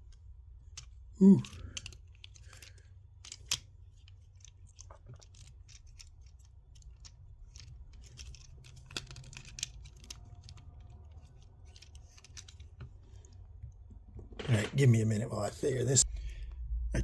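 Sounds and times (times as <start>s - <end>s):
plastic parts clicking and scraping: 0.0s - 15.0s.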